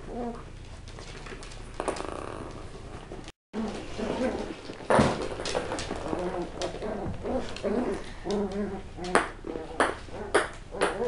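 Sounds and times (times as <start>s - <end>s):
puppies growling and yipping: 0.0s - 0.5s, 1.9s - 11.0s.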